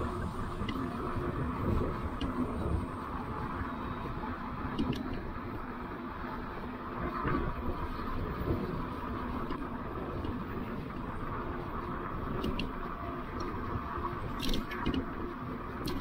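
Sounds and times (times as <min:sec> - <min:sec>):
wind over microphone: 0:00.0 - 0:16.0.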